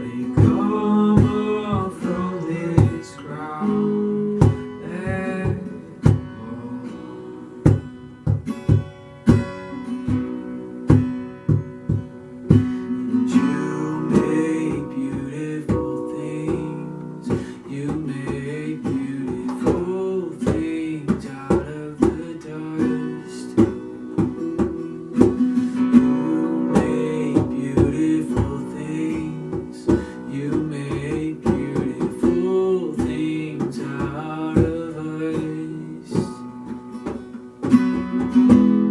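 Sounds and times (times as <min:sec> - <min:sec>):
person singing: 0:00.0 - 0:07.7, 0:13.1 - 0:36.6
acoustic guitar strumming: 0:00.0 - 0:38.9.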